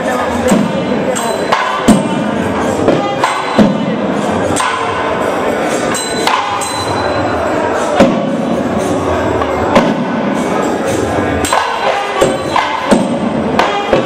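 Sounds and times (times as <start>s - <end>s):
loud drum strikes: 0.0s - 5.4s, 7.8s - 14.0s
crowd voices: 0.0s - 14.0s
festival music: 0.0s - 14.0s.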